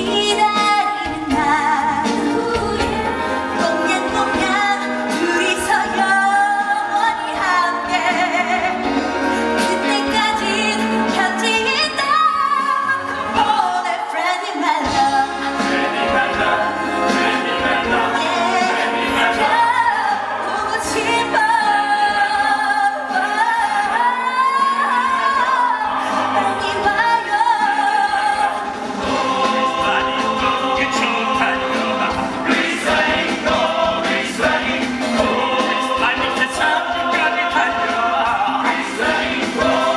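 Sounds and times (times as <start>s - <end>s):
backing music: 0.0s - 39.9s.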